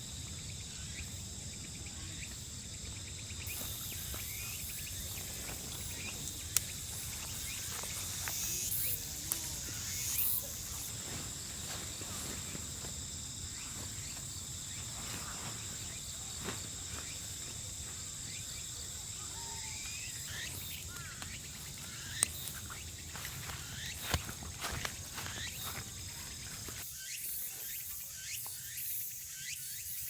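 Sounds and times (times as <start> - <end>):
crickets and insects singing: 0.0 - 30.0.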